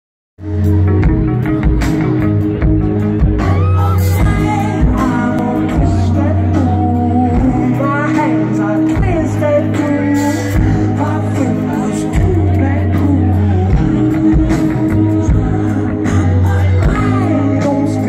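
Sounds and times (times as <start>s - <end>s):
rock band playing: 0.4s - 18.0s
person singing: 3.2s - 18.0s.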